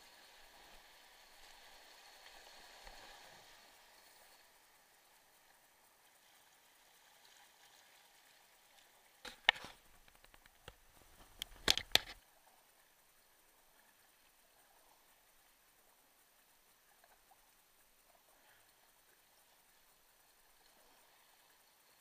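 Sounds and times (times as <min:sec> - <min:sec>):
moving water: 0:00.0 - 0:22.0.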